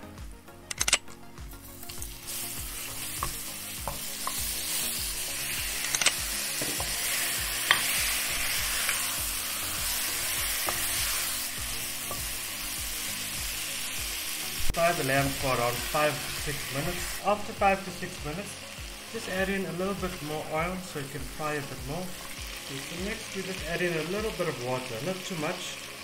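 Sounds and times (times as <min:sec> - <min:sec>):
meat sizzling in hot oil: 0:01.5 - 0:26.0.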